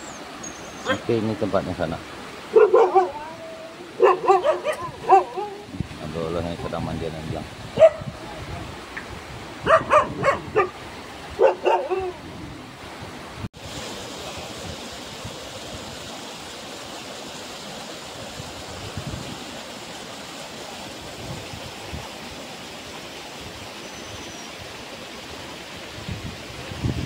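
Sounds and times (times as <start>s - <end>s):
river rushing over rapids: 0.0s - 27.0s.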